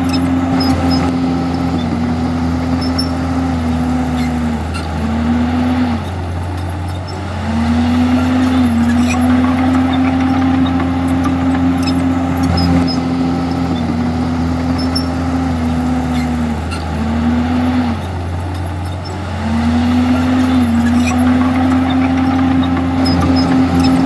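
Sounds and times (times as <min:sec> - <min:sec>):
bulldozer diesel engine droning: 0:00.0 - 0:24.0.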